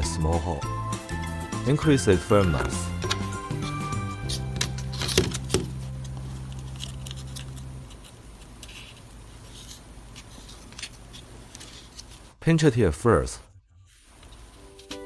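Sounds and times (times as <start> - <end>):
low steady hum: 0.0 - 14.8.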